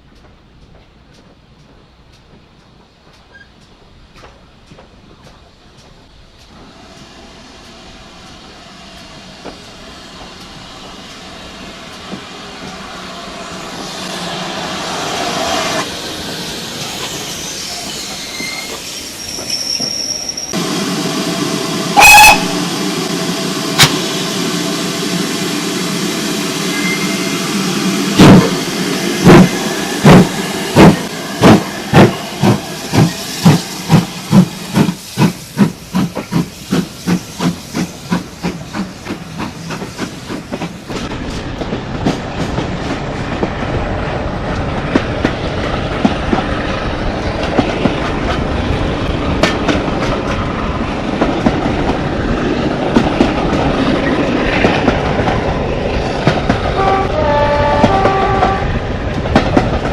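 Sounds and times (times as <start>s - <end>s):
rail clicks: 0.0s - 59.9s
train rumbling on rails: 0.0s - 59.9s
steam locomotive chuffing: 0.2s - 59.9s.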